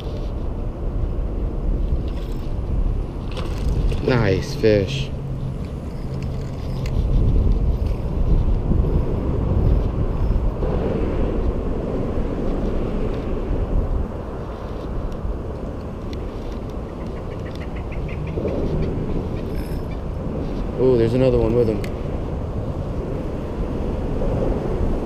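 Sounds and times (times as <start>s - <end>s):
traffic rumbling over bridge: 0.0s - 25.0s.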